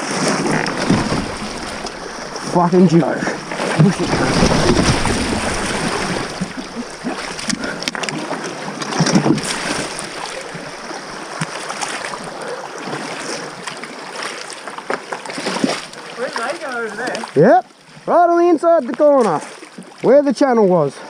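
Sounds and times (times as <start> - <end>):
water splashing around boat: 0.0 - 20.1.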